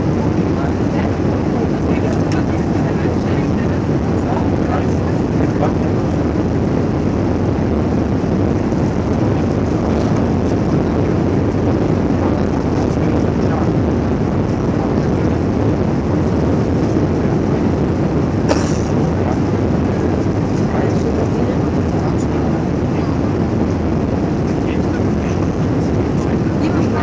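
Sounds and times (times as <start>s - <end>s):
aircraft cabin engine roar: 0.0s - 27.0s.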